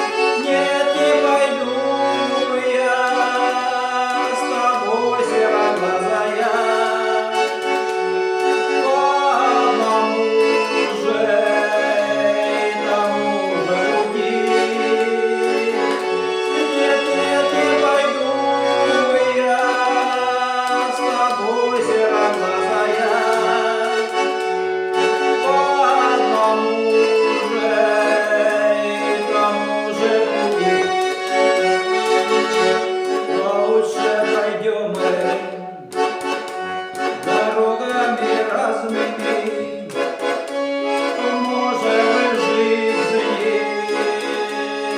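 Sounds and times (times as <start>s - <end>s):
accordion playing: 0.0s - 44.9s.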